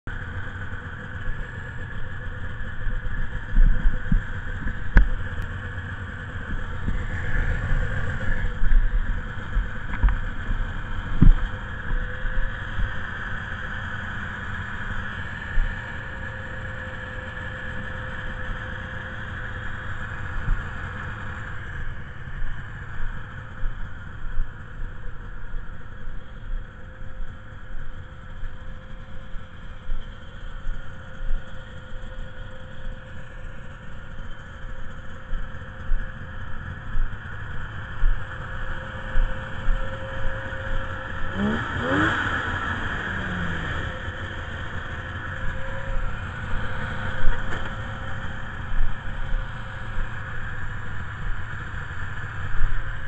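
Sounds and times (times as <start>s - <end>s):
snowmobile engines idling: 0.0s - 53.0s.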